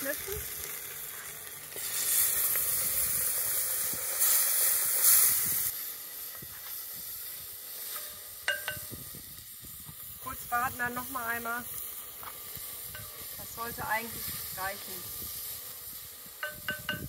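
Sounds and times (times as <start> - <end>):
food sizzling: 0.0 - 17.0
water hissing in hot pot: 0.0 - 17.0.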